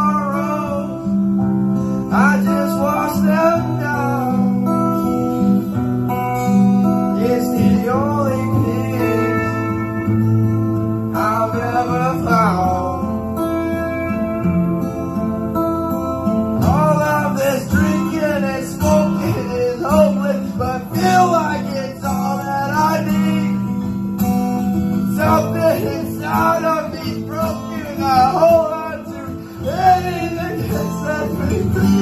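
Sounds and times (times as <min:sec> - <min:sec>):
man singing karaoke: 0:00.0 - 0:01.2, 0:02.0 - 0:05.4, 0:06.9 - 0:14.4, 0:16.6 - 0:24.0, 0:24.9 - 0:32.0
guitar backing track: 0:00.0 - 0:32.0.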